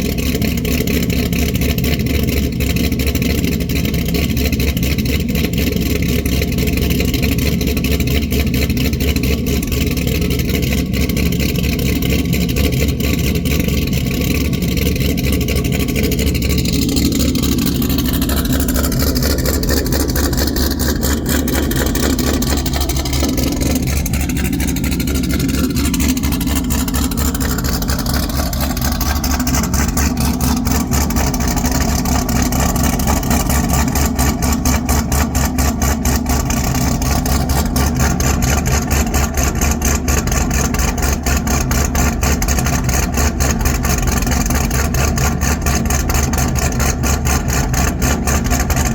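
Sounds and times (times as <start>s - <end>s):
car engine choppy idle: 0.0s - 48.9s.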